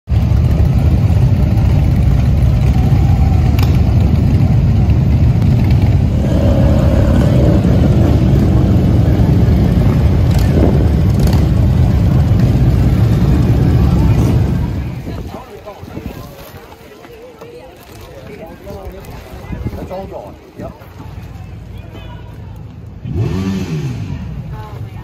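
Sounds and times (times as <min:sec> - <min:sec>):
motorcycle engines rumbling: 0:00.1 - 0:25.0.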